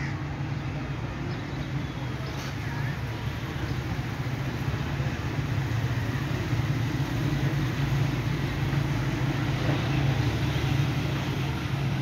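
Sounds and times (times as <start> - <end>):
distant diesel locomotive drone: 0.0 - 12.0.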